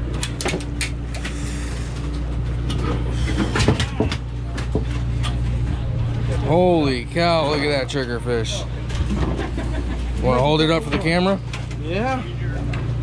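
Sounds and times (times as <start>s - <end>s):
boat machinery humming: 0.0s - 13.0s.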